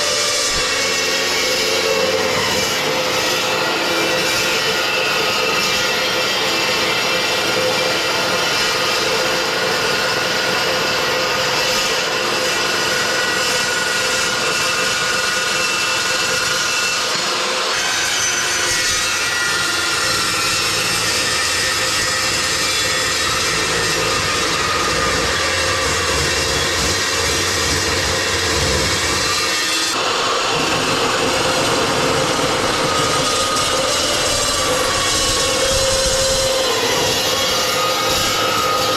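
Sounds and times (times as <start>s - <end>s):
chop saw cutting steel: 0.0s - 38.9s.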